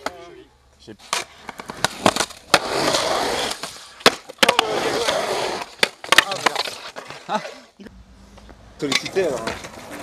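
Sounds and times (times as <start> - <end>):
skateboard wheels rolling on concrete: 1.0 - 10.0.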